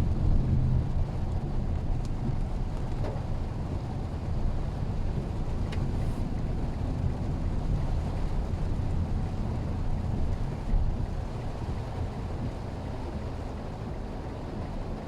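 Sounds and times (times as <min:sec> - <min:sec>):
low engine and road rumble: 0:00.0 - 0:15.0.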